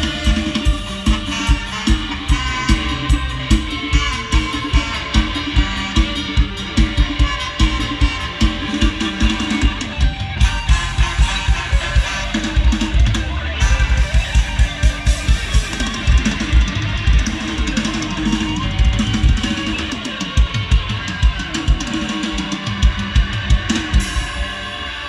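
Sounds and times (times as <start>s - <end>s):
band playing: 0.0s - 25.0s
electric guitar: 0.0s - 25.0s.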